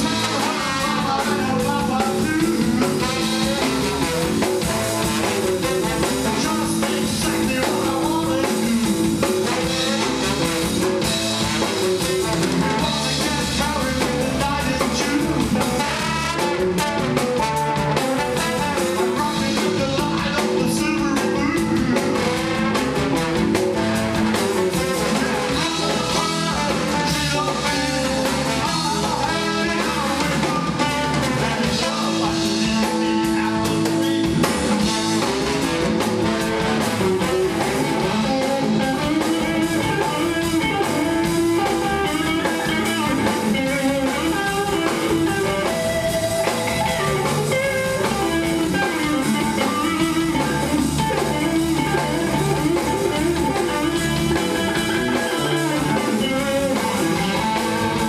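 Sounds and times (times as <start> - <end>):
drum kit steady beat: 0.0 - 58.0
guitar: 0.0 - 58.0.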